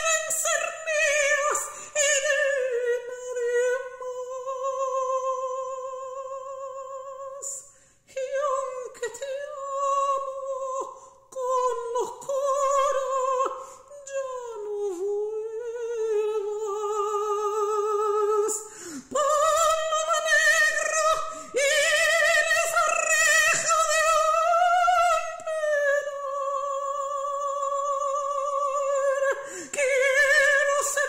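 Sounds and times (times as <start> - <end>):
woman singing with vibrato: 0.0 - 31.0.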